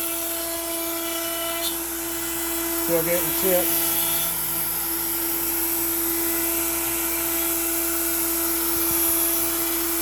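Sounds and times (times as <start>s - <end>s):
router whining through wood: 0.0s - 10.0s.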